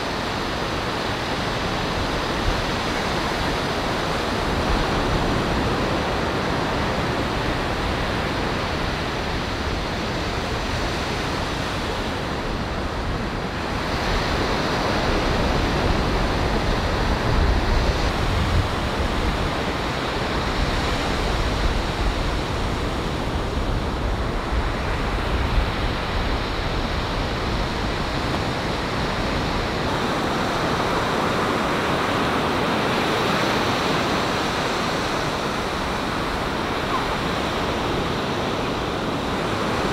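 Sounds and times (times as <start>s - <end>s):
small waves breaking on a beach: 0.0s - 39.9s.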